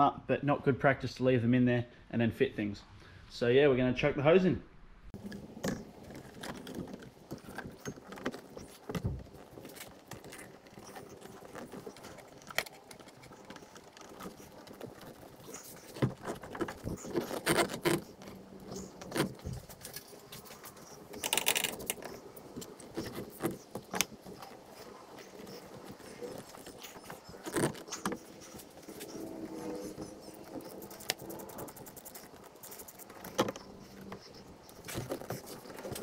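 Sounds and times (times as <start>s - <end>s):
rubber hose rubbing and rustling: 5.2s - 36.0s.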